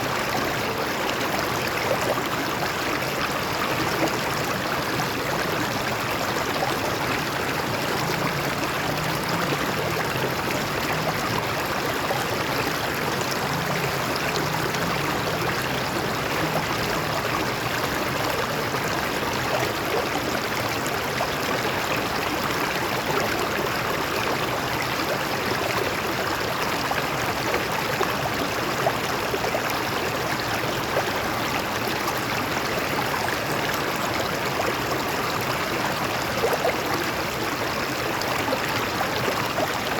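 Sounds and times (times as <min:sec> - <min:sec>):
stream splashing over rocks: 0:00.0 - 0:39.9.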